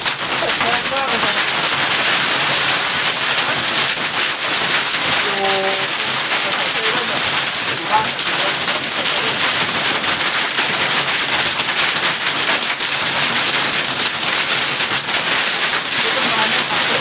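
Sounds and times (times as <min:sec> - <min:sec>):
hail and heavy rain on vehicle roof: 0:00.0 - 0:17.0.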